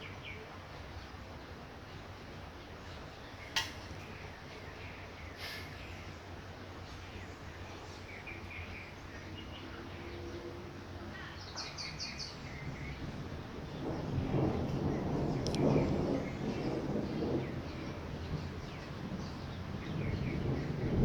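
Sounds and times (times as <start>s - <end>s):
birds chirping: 0.0s - 21.0s
light rain hissing: 0.0s - 21.0s
low rumble of thunder: 0.0s - 21.0s.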